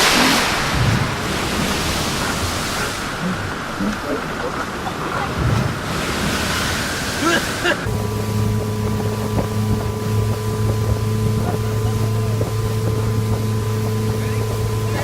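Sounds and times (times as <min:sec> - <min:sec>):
boat engine humming: 0:00.0 - 0:15.0
water rushing: 0:00.0 - 0:15.0
wind: 0:00.0 - 0:15.0.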